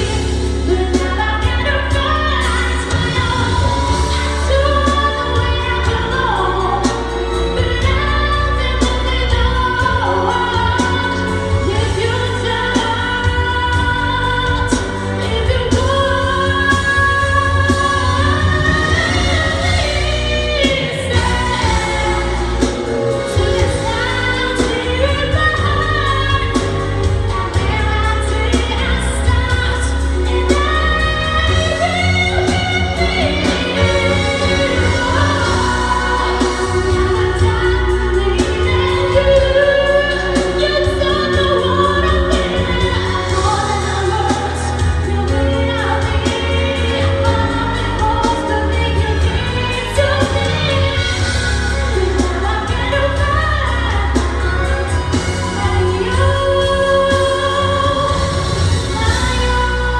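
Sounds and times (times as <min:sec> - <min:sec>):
girl singing a pop ballad: 0:00.0 - 0:59.9
instrumental accompaniment with deep bass: 0:00.0 - 0:59.9.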